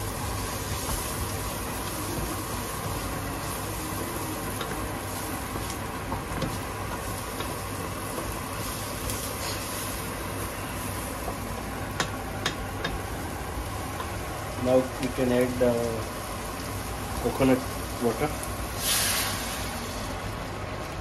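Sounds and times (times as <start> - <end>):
curry sizzling in oil: 0.0 - 21.0.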